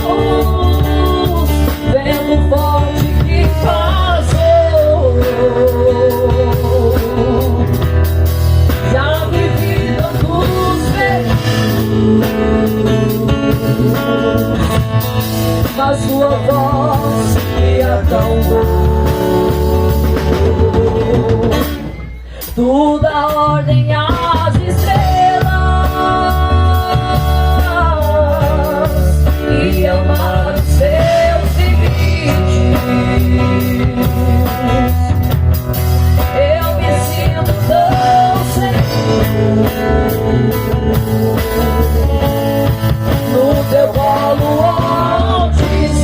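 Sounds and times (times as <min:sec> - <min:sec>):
bass and drums: 0:00.0 - 0:46.0
live band playing worship song: 0:00.0 - 0:46.0.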